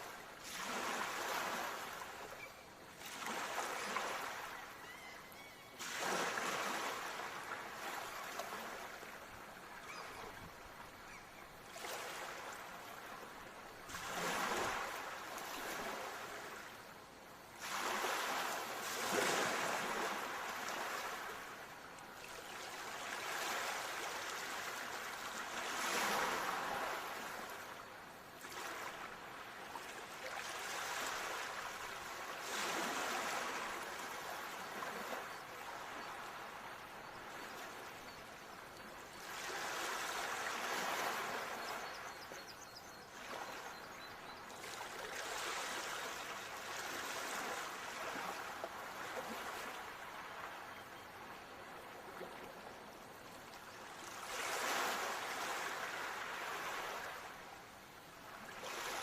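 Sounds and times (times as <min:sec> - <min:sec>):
ocean waves breaking on shore: 0:00.0 - 0:42.3, 0:43.1 - 0:59.0.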